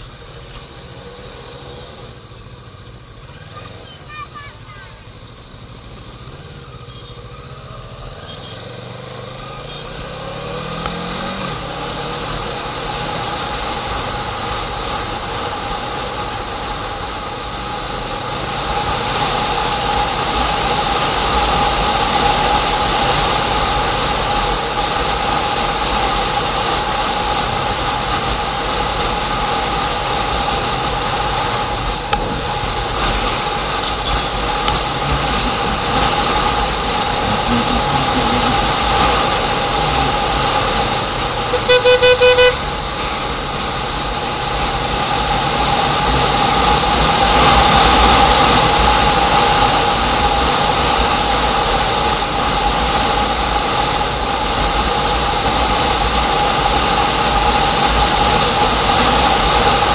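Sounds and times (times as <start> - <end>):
engine whining: 5.1 - 59.9.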